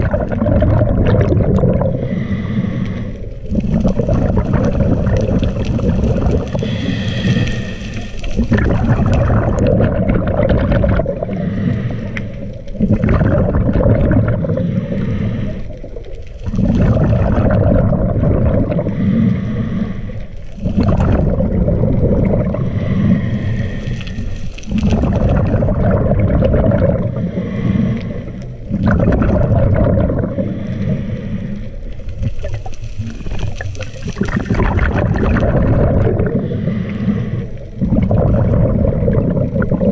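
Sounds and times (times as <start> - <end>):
exhaled bubbles bursting: 0.0 - 2.6, 3.2 - 39.9
diver inhaling through regulator: 1.7 - 9.7, 10.8 - 28.9, 29.8 - 33.2, 34.2 - 39.9.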